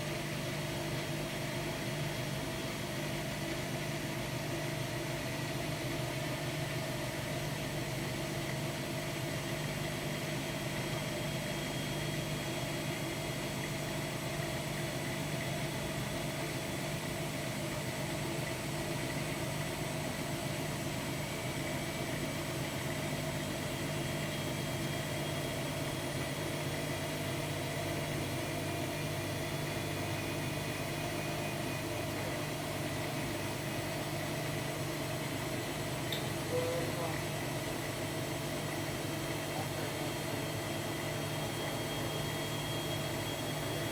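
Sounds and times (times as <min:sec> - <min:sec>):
washer-dryer humming: 0:00.0 - 0:43.9.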